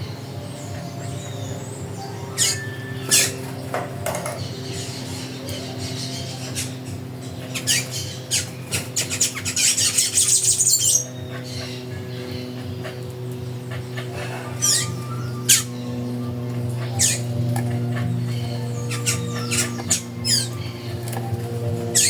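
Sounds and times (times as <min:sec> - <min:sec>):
bird calls: 0:00.0 - 0:22.0
steady low hum: 0:00.0 - 0:22.0.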